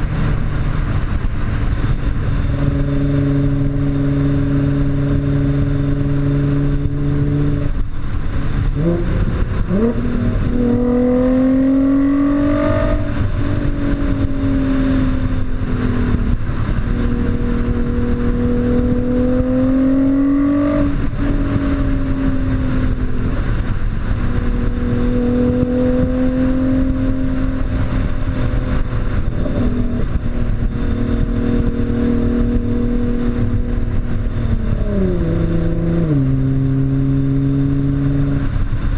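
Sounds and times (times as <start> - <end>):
car engine revving through gears: 1.0 - 38.8.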